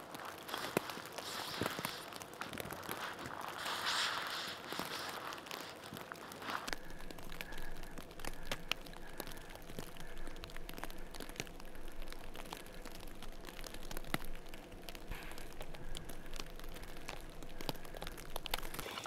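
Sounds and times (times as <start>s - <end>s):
light ticks of falling snow: 0.0s - 19.0s
soft steady hiss: 0.0s - 19.0s.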